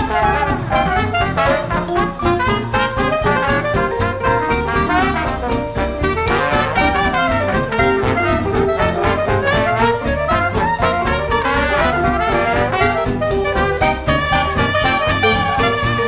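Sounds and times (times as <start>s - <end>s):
brass swing jazz music: 0.0s - 16.0s.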